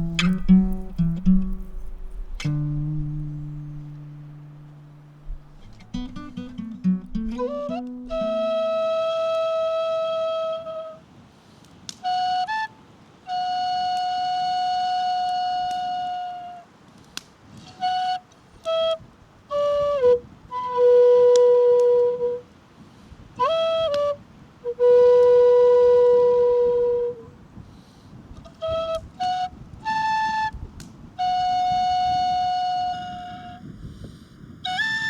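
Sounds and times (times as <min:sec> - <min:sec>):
solo flute playing: 0:00.0 - 0:11.2, 0:11.9 - 0:16.7, 0:17.6 - 0:22.6, 0:23.4 - 0:27.4, 0:28.4 - 0:33.7, 0:34.6 - 0:35.0.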